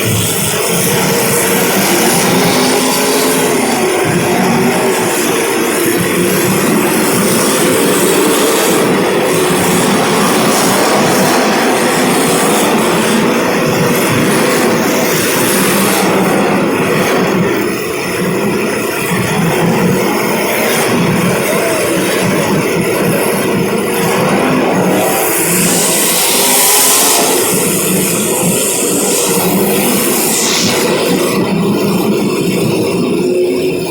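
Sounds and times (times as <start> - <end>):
race car engines droning: 0.0 - 33.9.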